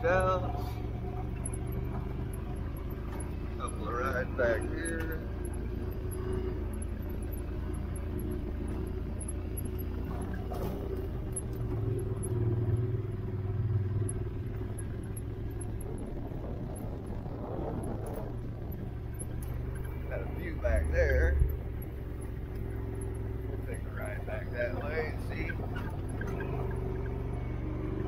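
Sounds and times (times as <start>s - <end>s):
off-road vehicle engine droning: 0.0s - 28.0s.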